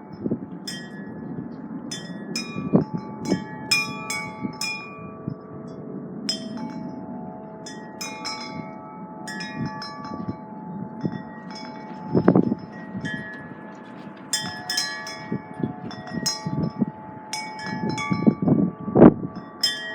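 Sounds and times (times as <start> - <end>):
wind chimes ringing: 0.0 - 19.9
wind gusts on microphone: 0.0 - 19.9.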